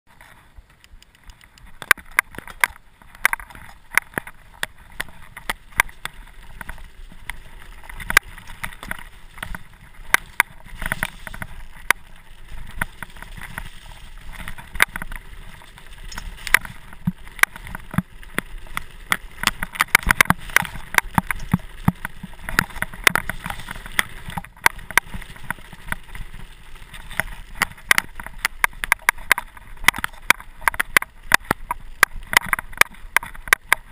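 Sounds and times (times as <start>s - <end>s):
bike clicking and clattering: 0.1s - 33.9s
bike tyres rumbling on gravel: 0.1s - 33.9s.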